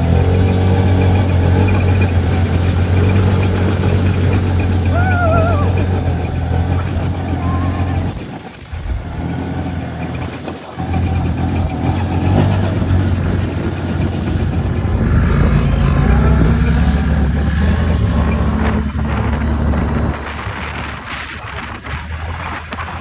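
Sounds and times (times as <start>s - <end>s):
quad bike engine running: 0.0s - 23.0s.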